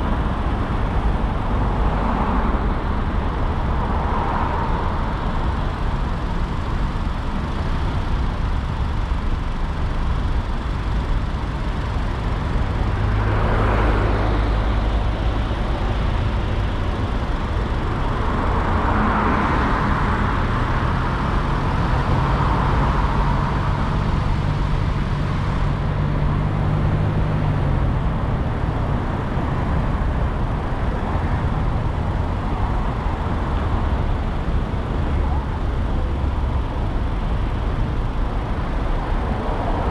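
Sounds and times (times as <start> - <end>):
car road and engine noise: 0.0 - 39.9
vehicles passing: 0.0 - 39.9.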